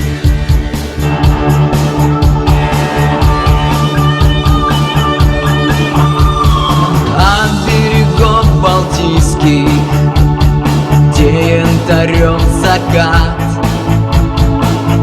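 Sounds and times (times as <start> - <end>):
drum kit beat: 0.0 - 15.0
guitars: 0.0 - 15.0
rock song: 0.0 - 15.0.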